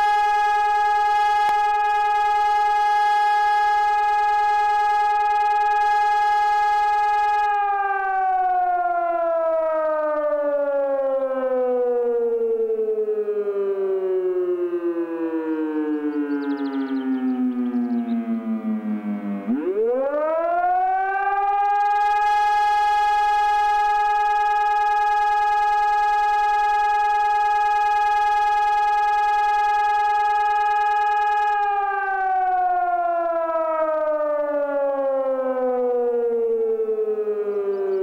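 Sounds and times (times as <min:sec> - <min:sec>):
rotary alarm siren wailing: 0:00.0 - 0:38.0.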